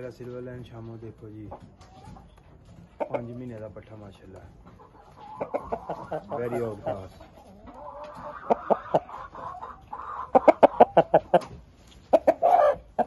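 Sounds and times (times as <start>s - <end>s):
chicken clucking: 0.0s - 13.0s.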